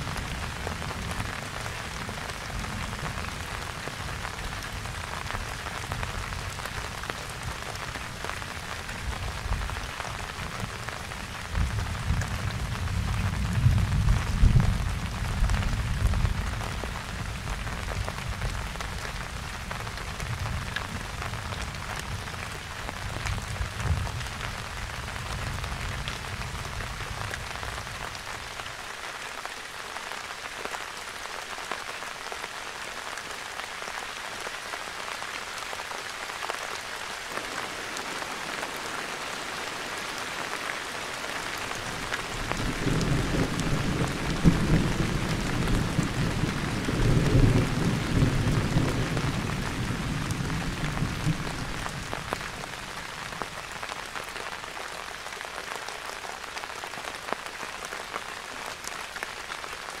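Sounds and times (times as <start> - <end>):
rain falling on foliage: 0.0 - 60.0.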